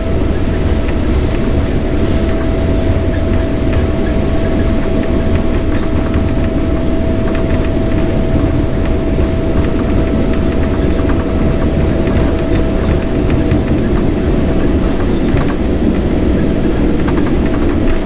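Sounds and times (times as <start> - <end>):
jet engine whine: 0.0 - 18.0
jet engines rumbling: 0.0 - 18.0.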